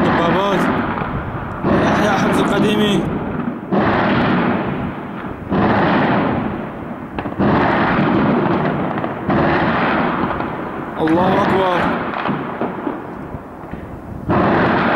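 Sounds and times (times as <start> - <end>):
loud blasts with rolling echo: 0.0 - 14.9.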